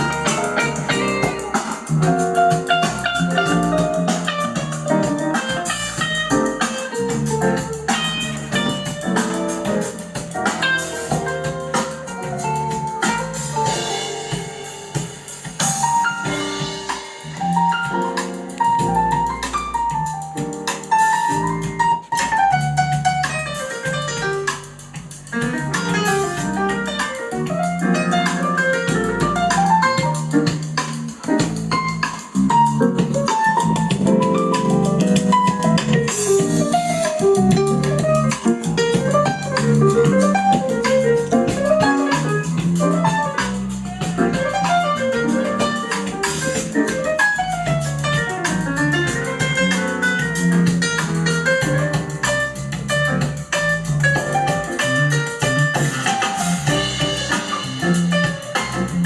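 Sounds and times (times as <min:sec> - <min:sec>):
bass notes: 0:00.0 - 0:59.0
instrumental music over loudspeakers: 0:00.0 - 0:59.0
keyboard melody: 0:00.0 - 0:59.0
light drums: 0:00.0 - 0:59.0.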